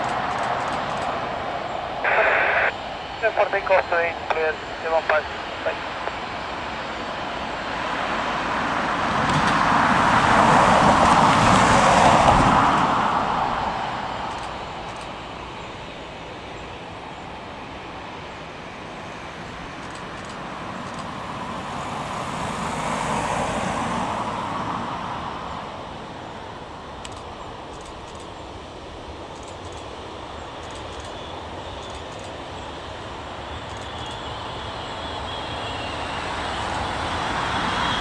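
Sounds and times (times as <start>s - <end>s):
vehicles passing: 0.0s - 29.9s, 31.9s - 38.0s.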